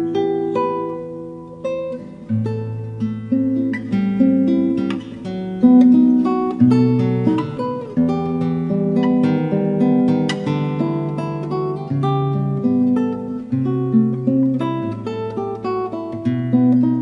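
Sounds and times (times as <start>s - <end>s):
fingerstyle classical guitar: 0.0s - 17.0s.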